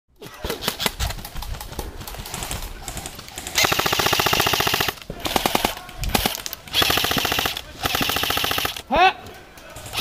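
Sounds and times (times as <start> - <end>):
airsoft guns firing: 0.5 - 8.9.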